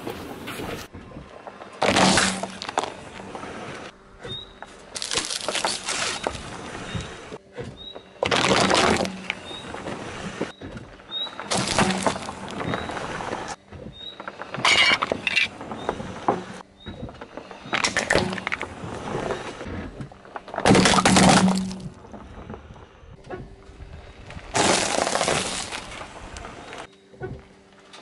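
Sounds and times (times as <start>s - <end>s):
tyre crushing objects: 0.0s - 22.7s, 23.3s - 27.6s.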